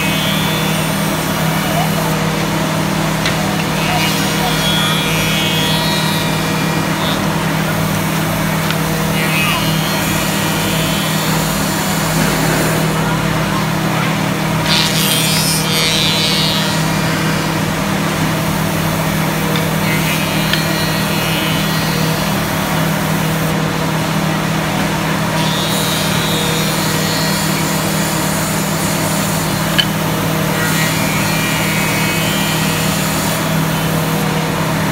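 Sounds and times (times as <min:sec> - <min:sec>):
cutters milling wood: 0:00.0 - 0:34.9
machine humming: 0:00.0 - 0:34.9.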